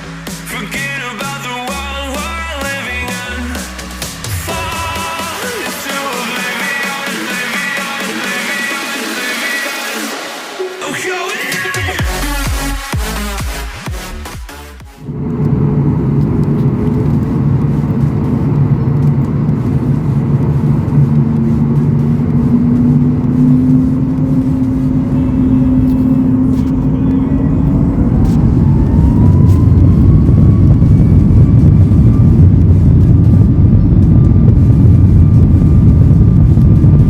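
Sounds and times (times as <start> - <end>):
jet engines humming: 0.0 - 12.5, 14.5 - 37.0.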